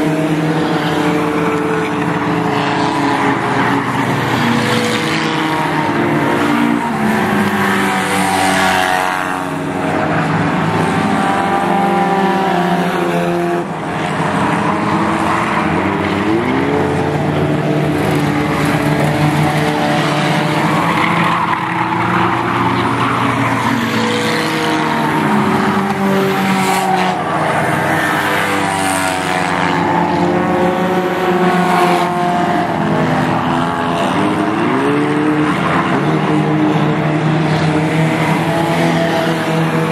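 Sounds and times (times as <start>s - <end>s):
stock car engines racing: 0.0s - 39.9s.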